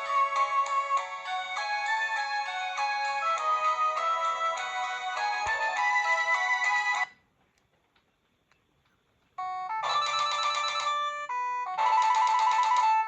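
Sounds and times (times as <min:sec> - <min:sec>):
electronic phone ringtone: 0:00.0 - 0:07.2, 0:09.4 - 0:13.0.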